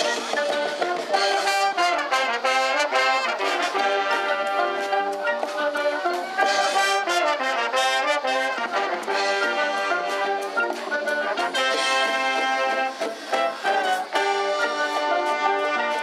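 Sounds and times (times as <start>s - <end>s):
trumpets and trombones: 0.0s - 16.0s
wind band playing: 0.0s - 16.0s.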